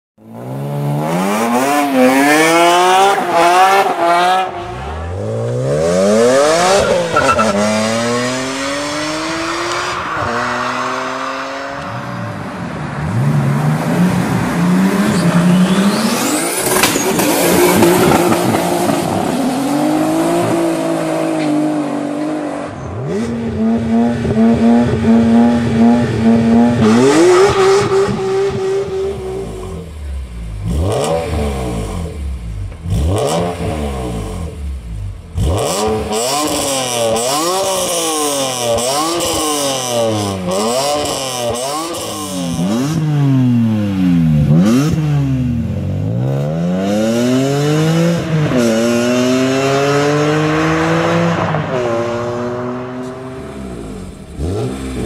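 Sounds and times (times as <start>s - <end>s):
car engines revving: 0.2s - 55.0s.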